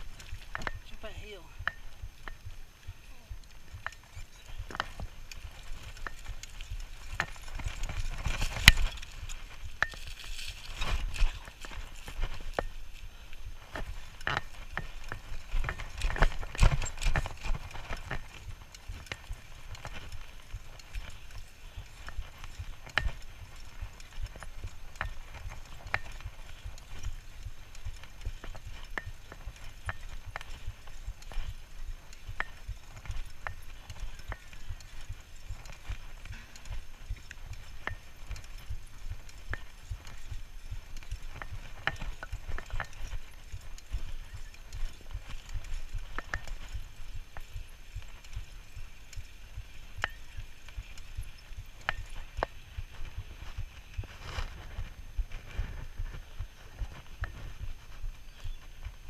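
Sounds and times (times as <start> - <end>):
bicycle tyres rumbling on grass: 0.0 - 59.0
bike rattling and knocking: 0.0 - 59.0.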